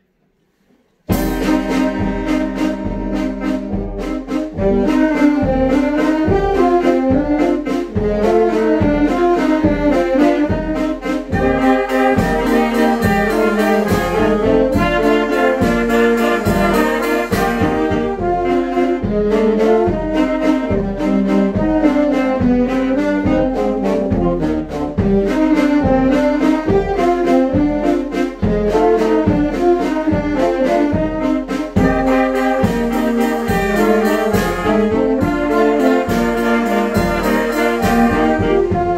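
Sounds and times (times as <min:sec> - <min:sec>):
brass band playing: 0:01.1 - 0:38.9.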